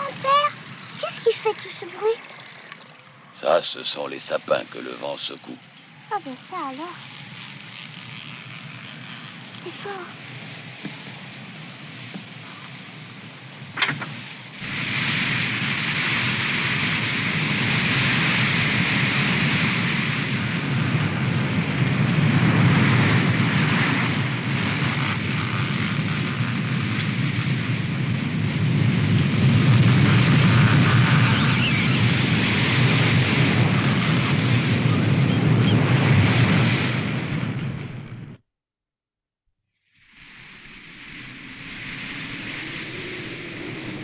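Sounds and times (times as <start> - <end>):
strong wind roaring through trees: 0.0 - 38.4, 40.0 - 44.0.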